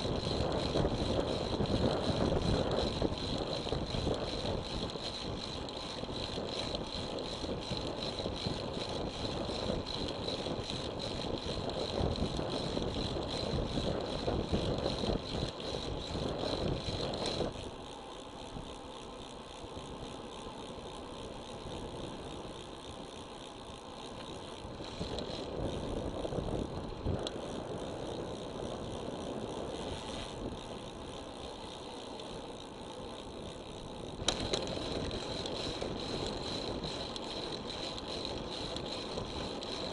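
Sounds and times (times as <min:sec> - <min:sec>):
bicycle rattling: 0:00.0 - 0:39.9
wind and tyre noise: 0:00.0 - 0:39.9.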